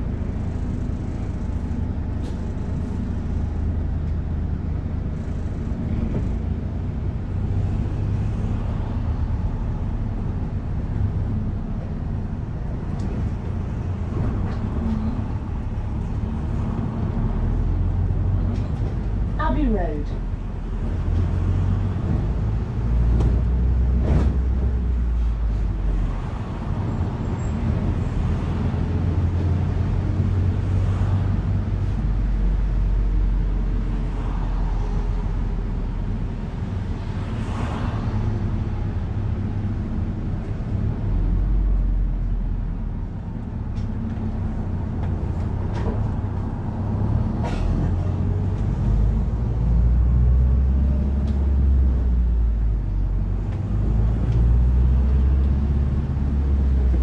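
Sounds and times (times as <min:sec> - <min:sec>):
bus engine: 0:00.0 - 0:57.0
road noise: 0:00.0 - 0:57.0.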